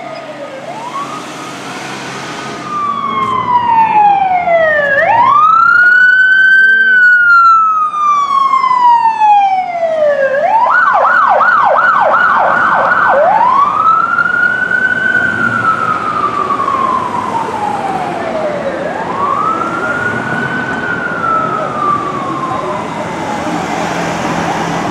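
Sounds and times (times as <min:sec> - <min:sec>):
ambulance siren wailing: 0:00.0 - 0:24.9.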